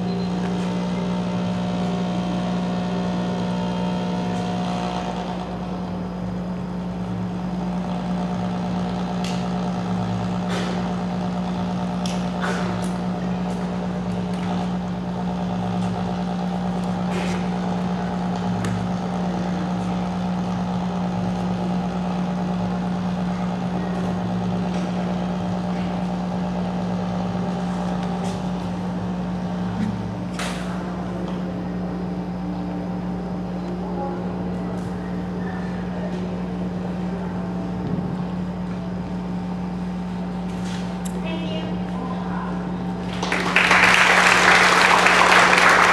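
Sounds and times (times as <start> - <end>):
low electronic hum: 0.0 - 45.9.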